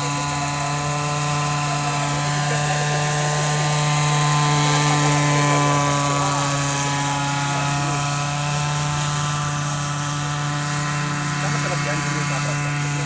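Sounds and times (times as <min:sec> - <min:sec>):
model helicopter engine and rotor: 0:00.0 - 0:13.0.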